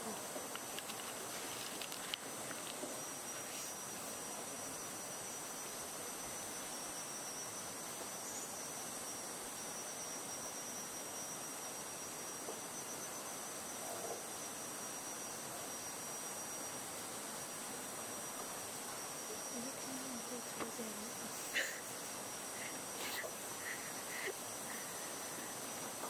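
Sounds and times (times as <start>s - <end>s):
background hiss: 0.0s - 26.0s
crickets trilling: 0.0s - 26.0s.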